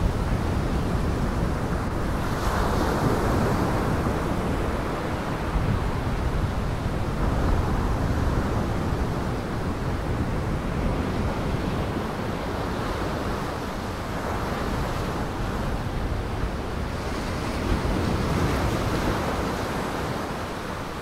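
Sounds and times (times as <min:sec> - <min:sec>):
wind: 0:00.0 - 0:21.0.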